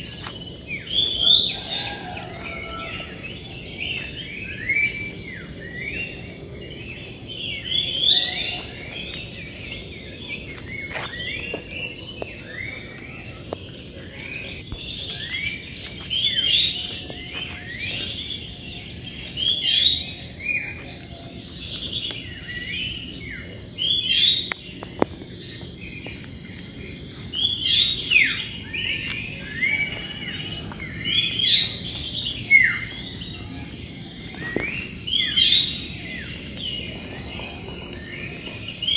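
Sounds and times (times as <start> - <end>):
birds chirping and twittering: 0.0 - 38.9
high-pitched insect trill: 0.0 - 38.9.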